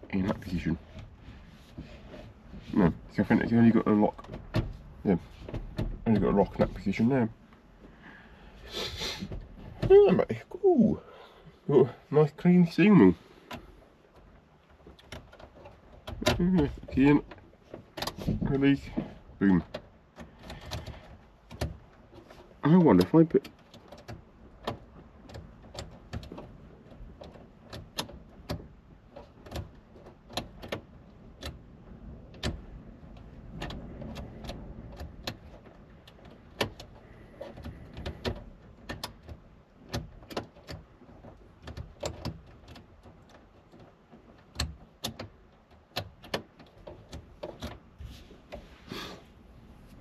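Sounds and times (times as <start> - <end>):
light clicks and knocks: 0.0 - 8.2, 9.2 - 10.4, 12.7 - 48.8.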